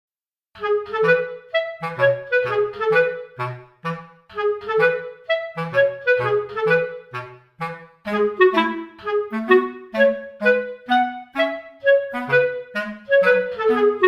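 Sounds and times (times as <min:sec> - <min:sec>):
bouncy clarinet-like melody: 0:00.6 - 0:14.0.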